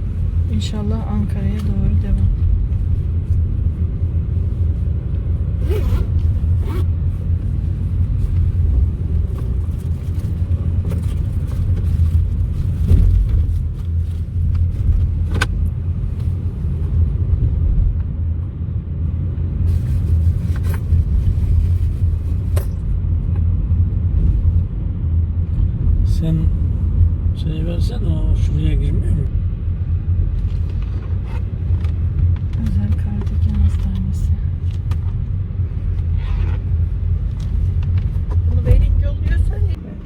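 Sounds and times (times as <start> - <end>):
road and engine rumble in car: 0.0 - 40.0.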